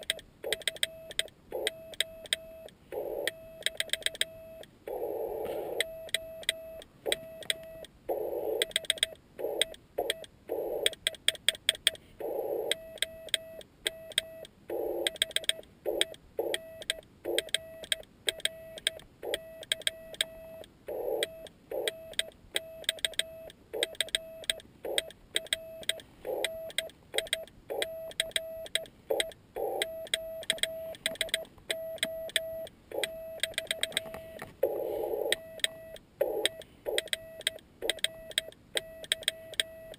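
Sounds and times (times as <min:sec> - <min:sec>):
morse code tone: 0:00.0 - 0:11.2, 0:12.2 - 0:39.9.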